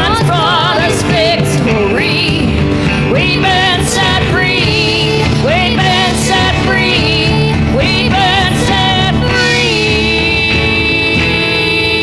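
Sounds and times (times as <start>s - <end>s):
live band accompaniment: 0.0s - 12.0s.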